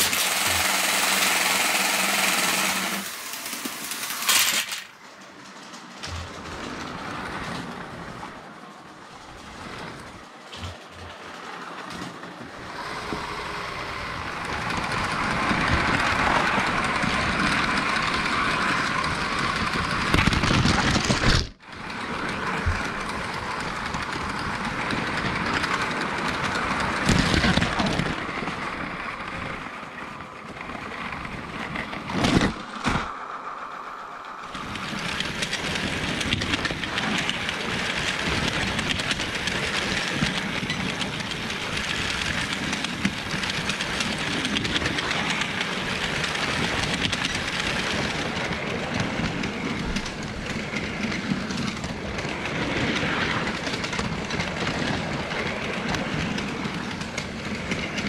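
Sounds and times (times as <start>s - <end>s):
train rushing on rails: 0.0s - 58.0s.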